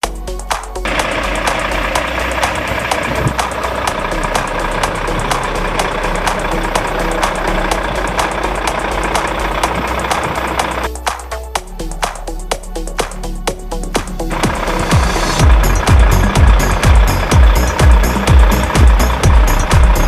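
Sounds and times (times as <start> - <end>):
diesel truck engine running: 0.3 - 20.0
sharp ticking: 0.4 - 12.6, 14.3 - 20.0.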